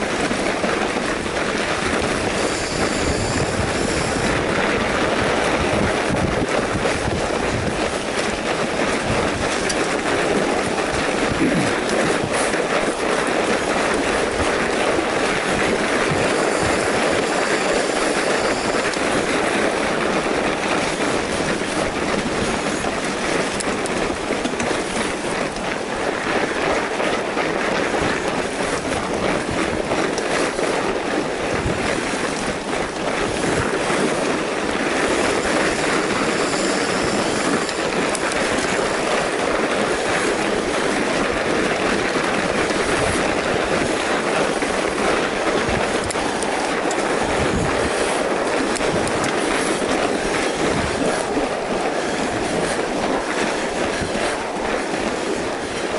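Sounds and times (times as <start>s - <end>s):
bike tyres rumbling over snow: 0.0s - 55.9s.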